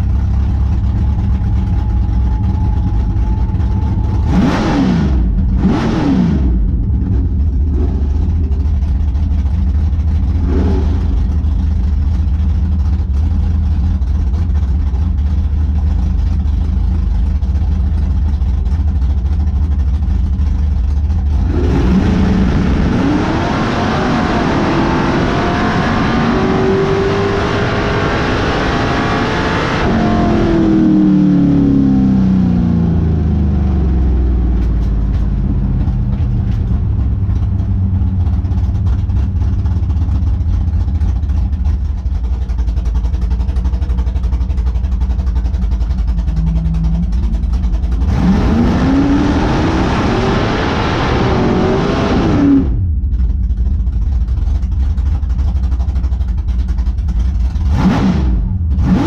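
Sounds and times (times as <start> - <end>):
drag race car engine: 0.0 - 59.0.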